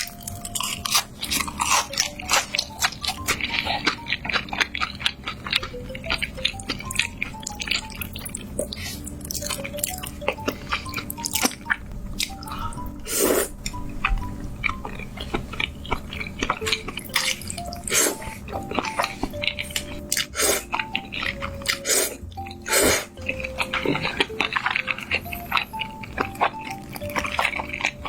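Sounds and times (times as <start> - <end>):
soft background melody: 0.0 - 28.0.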